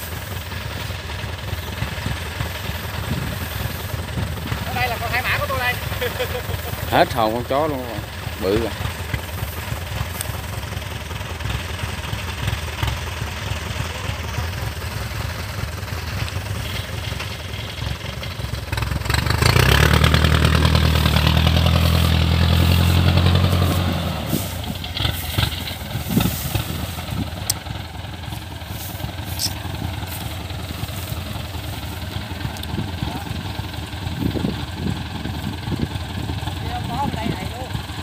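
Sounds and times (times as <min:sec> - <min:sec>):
combine harvester diesel engine: 0:00.0 - 0:38.0
engine passing close with deep hum: 0:00.0 - 0:38.0.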